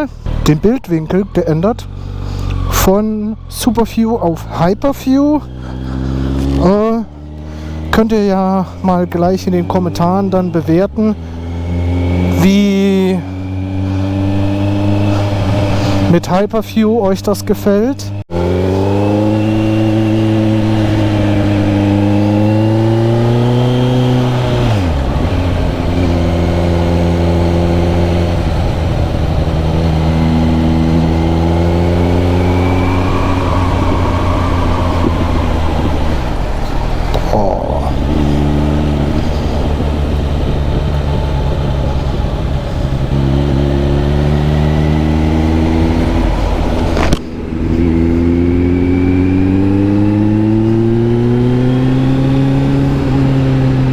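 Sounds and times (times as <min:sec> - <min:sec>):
motorcycle engine revving: 0:00.0 - 0:16.2, 0:17.7 - 0:53.9.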